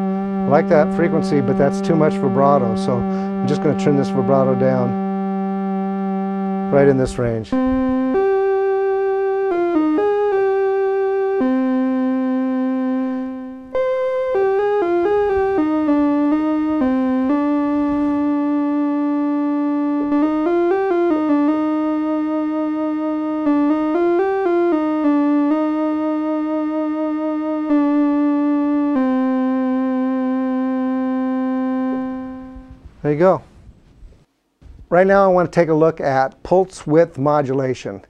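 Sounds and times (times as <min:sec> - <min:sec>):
analog synthesizer notes with vibrato: 0:00.0 - 0:33.3.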